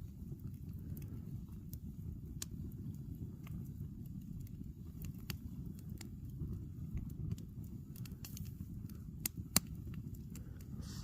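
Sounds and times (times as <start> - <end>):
fire crackling and popping: 0.0 - 11.0
low steady rumble: 0.0 - 11.0.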